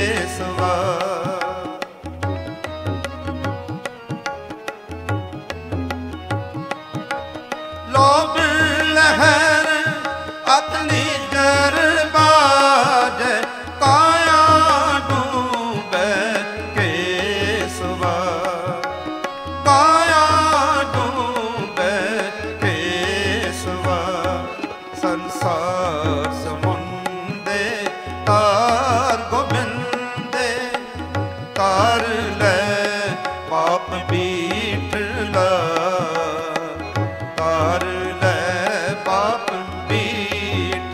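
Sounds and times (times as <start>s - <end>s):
man singing ornamented notes: 0.0s - 3.3s, 7.7s - 40.9s
tabla beat: 0.0s - 40.9s.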